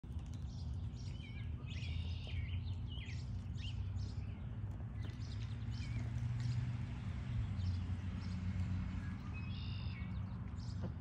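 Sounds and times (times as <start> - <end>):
songbirds chirping and singing: 0.1 - 11.0.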